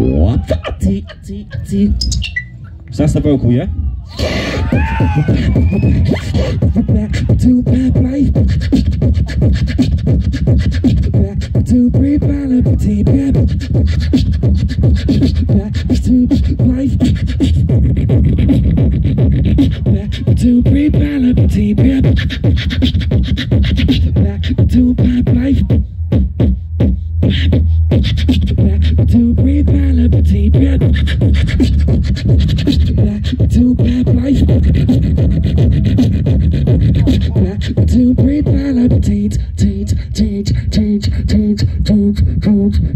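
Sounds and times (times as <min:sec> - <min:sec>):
hummed vocal melody: 0:00.0 - 0:02.9, 0:03.7 - 0:42.9
beatboxing beat: 0:00.0 - 0:03.2, 0:04.1 - 0:42.9
deep held bass: 0:00.0 - 0:42.9.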